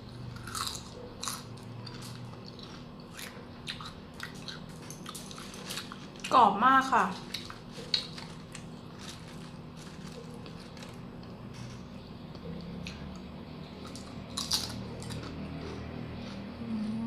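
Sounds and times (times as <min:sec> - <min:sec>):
crisp chips crunching: 0:00.3 - 0:11.8, 0:13.8 - 0:16.4.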